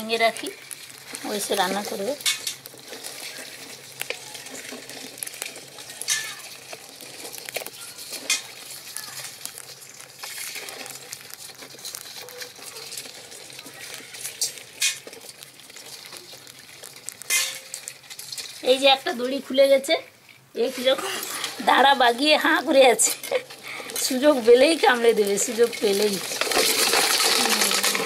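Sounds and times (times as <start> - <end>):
crabs scraping metal basin: 0.0 - 28.0.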